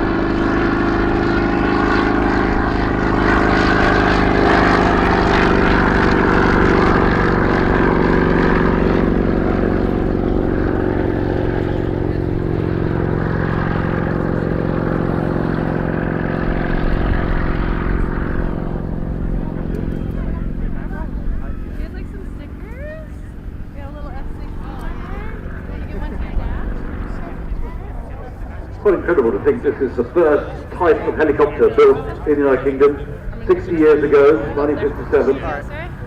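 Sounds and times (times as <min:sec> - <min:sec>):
helicopter engine and rotor: 0:00.0 - 0:36.0.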